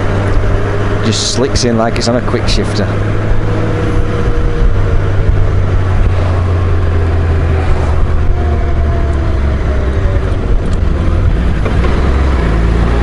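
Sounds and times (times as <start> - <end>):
motorcycle engine drone: 0.0 - 13.0
wind and road noise: 0.0 - 13.0.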